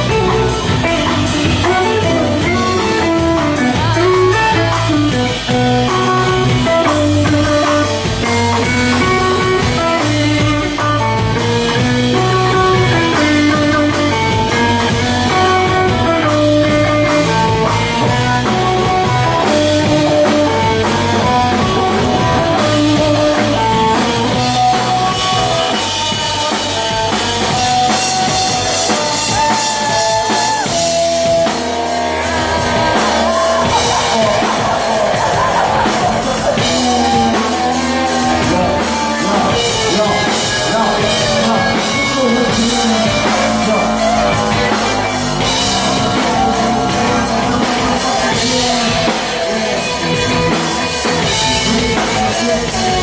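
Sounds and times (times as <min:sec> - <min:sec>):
drum kit: 0:00.0 - 0:53.0
electric guitar melody: 0:00.0 - 0:53.0
live rock band playing: 0:00.0 - 0:53.0.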